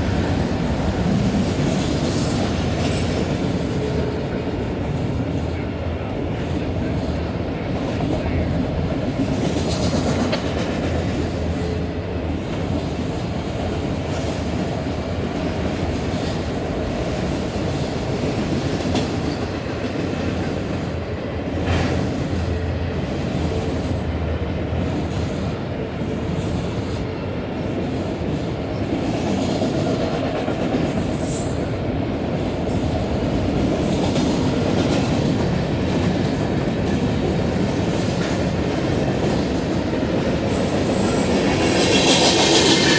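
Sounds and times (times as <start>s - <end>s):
freight cars rumbling on rails: 0.0s - 42.9s.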